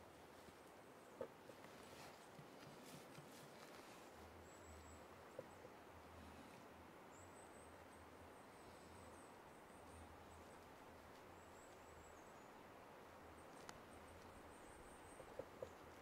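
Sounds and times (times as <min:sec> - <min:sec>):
steady soft hiss: 0:00.0 - 0:16.0.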